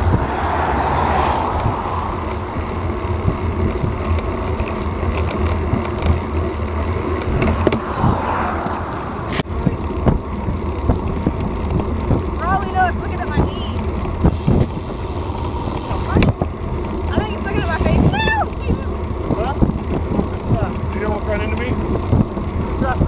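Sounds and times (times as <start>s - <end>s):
car passing: 0.0s - 22.9s
road noise low rumble: 0.0s - 23.0s
wind noise: 0.0s - 23.0s.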